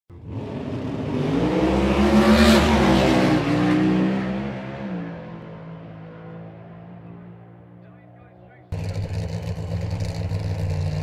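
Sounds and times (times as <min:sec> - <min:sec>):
drag racing car accelerating: 0:00.1 - 0:11.0.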